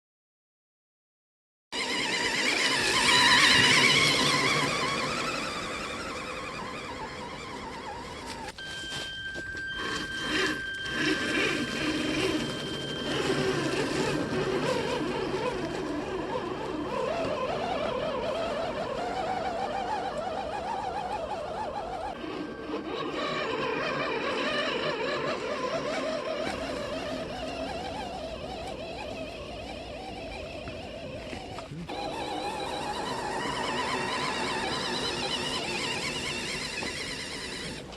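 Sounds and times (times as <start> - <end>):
electric motor whining: 1.8 - 37.9.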